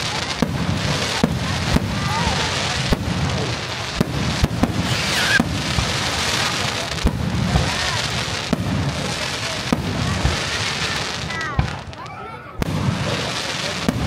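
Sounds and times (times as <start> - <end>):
firework shells bursting: 0.0 - 12.0
fireworks crackling: 0.0 - 14.0.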